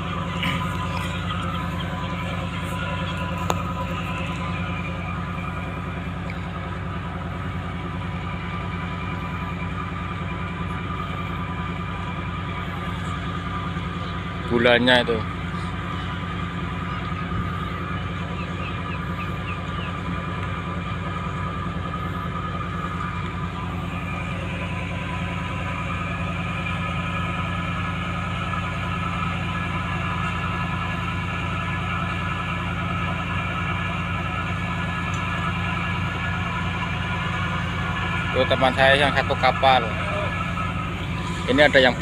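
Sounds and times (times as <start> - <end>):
boat engine drone with whine: 0.0 - 42.0.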